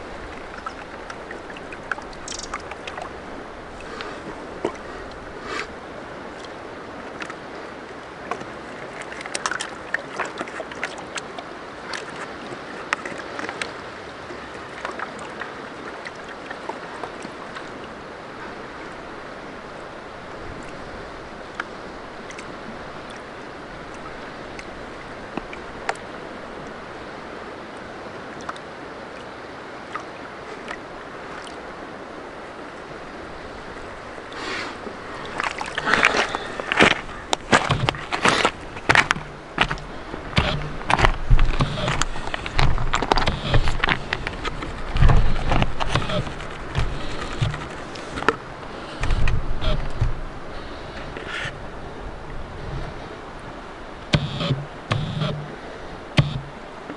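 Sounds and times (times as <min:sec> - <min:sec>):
water sloshing and splashing: 0:00.0 - 0:56.9.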